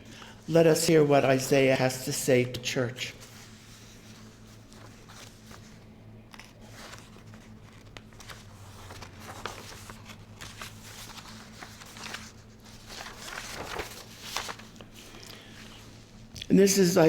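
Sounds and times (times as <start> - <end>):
low electrical hum: 0.0 - 17.0
soft rustling and handling noises: 2.2 - 16.7.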